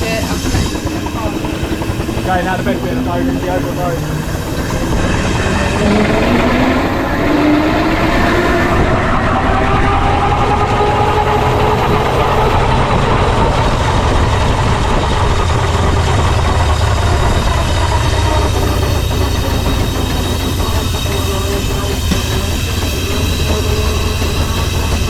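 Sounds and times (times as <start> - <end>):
rising whine: 0.0 - 25.0
steam wagon rumbling: 0.0 - 25.0.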